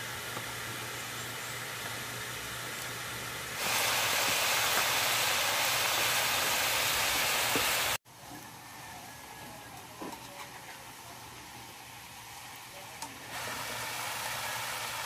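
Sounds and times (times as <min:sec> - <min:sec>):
livers sizzling in a wok: 0:00.0 - 0:15.0.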